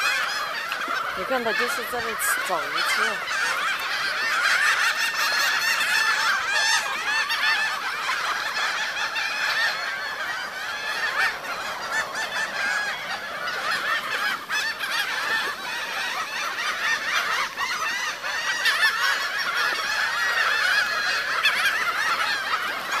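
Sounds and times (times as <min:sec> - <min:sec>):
gulls calling: 0:00.0 - 0:23.0.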